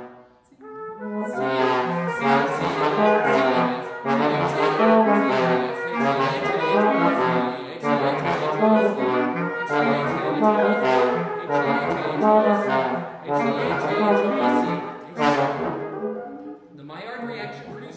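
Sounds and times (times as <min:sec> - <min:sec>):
brass and clarinet chamber music: 0:00.0 - 0:17.9.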